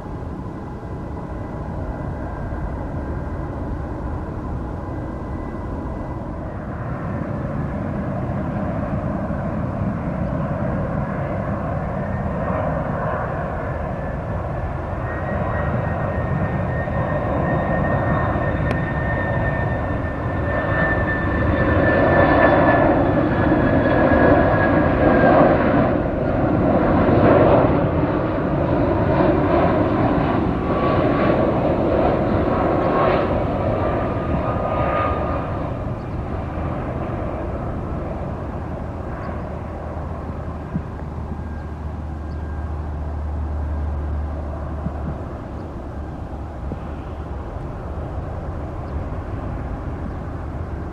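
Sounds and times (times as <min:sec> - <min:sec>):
jet engine rumble and whine: 0:00.0 - 0:50.9.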